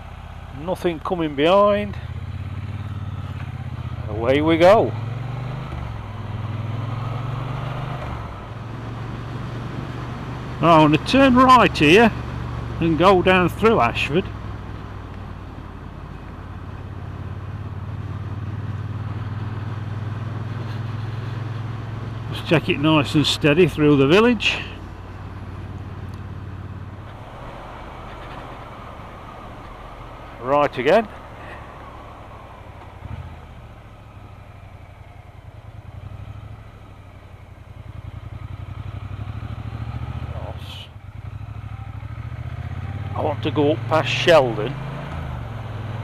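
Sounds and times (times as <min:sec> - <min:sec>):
motorcycle engine running: 0:00.0 - 0:46.0
wind and road noise: 0:00.0 - 0:46.0.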